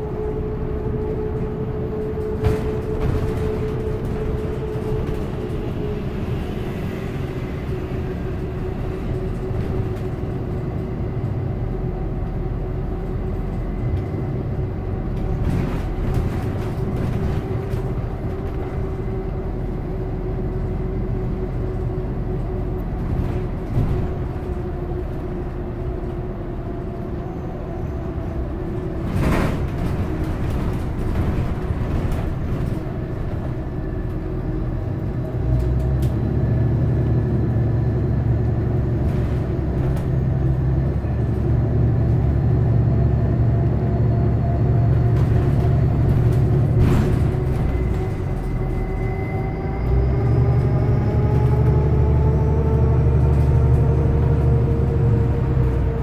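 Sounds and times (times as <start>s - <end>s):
bus body knocking and rattling: 0.0s - 56.0s
bus engine and road rumble: 0.0s - 56.0s
constant whine: 0.0s - 56.0s.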